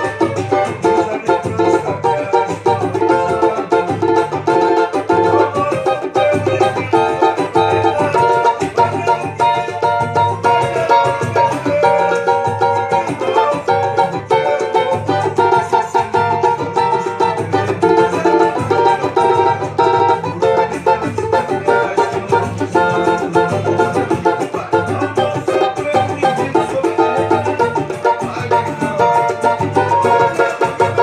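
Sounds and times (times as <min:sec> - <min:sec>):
backing song bass line: 0:00.0 - 0:31.0
damped banjo strumming: 0:00.0 - 0:31.0.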